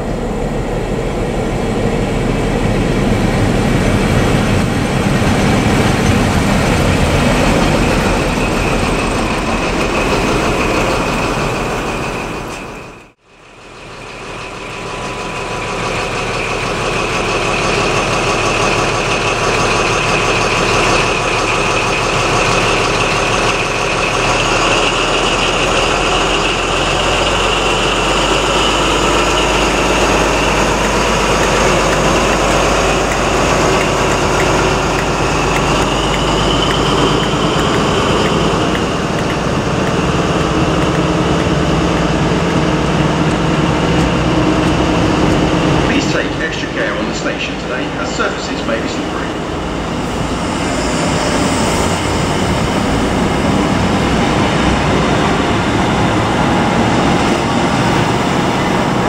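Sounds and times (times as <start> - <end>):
diesel engine idling: 0.0 - 59.0
high whine: 0.0 - 59.0
train running into platform: 0.0 - 59.0.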